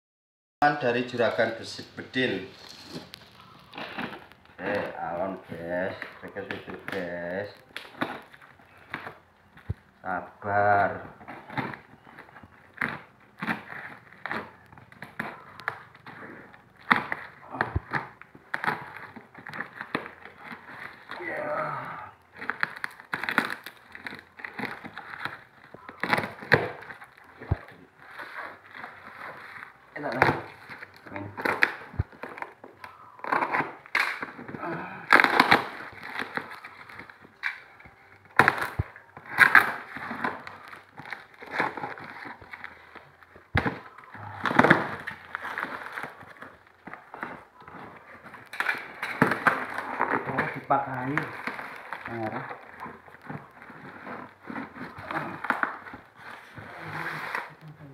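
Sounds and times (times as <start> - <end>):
plastic packaging crinkling: 0.6 - 57.9
sharp crackles: 0.6 - 57.9.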